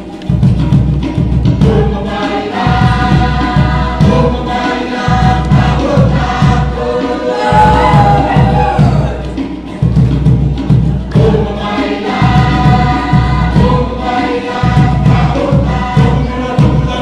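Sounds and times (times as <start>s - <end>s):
large drums beating: 0.3s - 17.0s
group singing in chorus: 1.4s - 17.0s.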